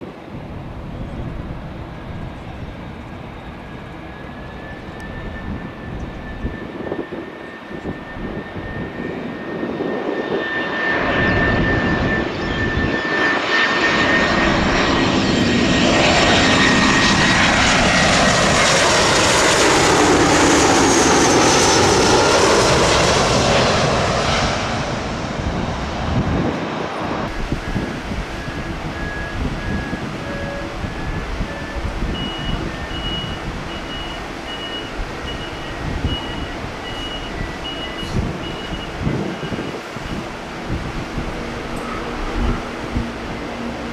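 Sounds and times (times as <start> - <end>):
jet airliner flying overhead: 0.0 - 43.9.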